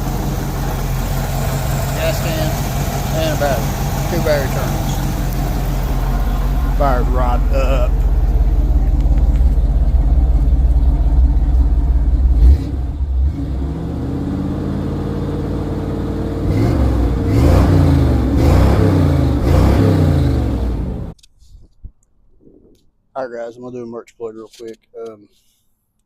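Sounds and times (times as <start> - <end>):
pickup truck engine revving: 0.0 - 21.2.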